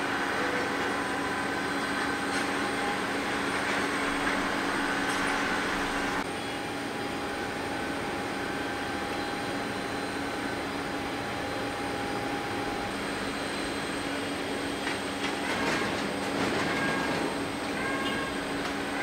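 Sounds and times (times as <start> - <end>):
jet engines whining: 0.0 - 19.0.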